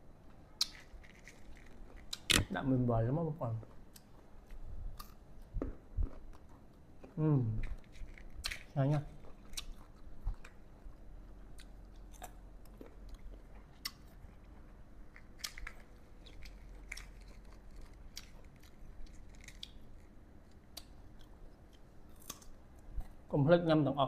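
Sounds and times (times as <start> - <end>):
chewing crunchy mango: 3.6 - 23.3.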